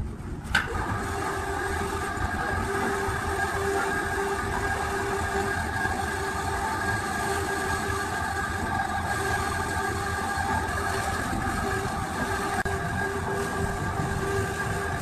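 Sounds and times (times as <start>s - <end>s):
concrete mixer motor running: 0.3s - 15.0s.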